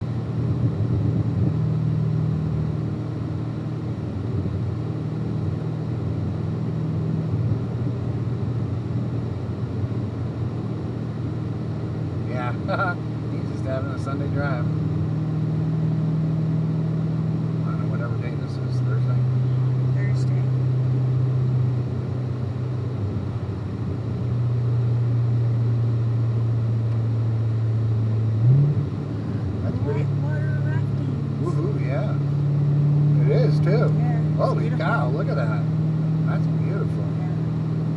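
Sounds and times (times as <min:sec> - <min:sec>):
car engine and road noise: 0:00.0 - 0:37.9.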